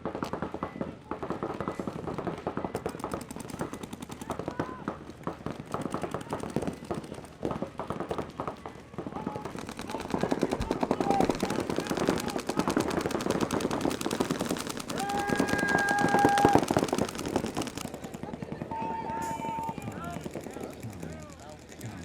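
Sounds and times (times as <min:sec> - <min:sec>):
paintball markers firing: 0:00.1 - 0:18.6.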